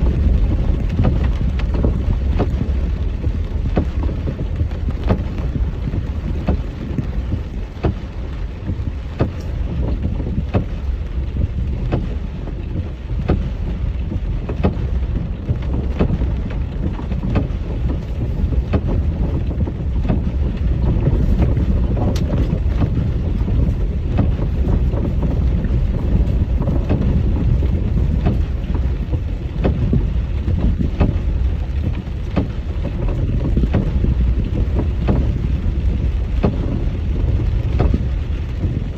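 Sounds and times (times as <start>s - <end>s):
vehicle engine low rumble: 0.0s - 38.9s
wind buffeting microphone: 0.0s - 38.9s.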